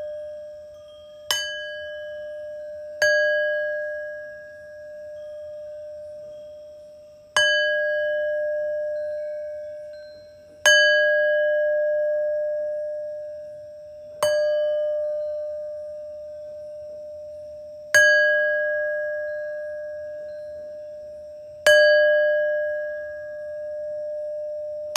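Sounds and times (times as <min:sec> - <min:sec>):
singing bowl ringing: 0:00.0 - 0:24.9.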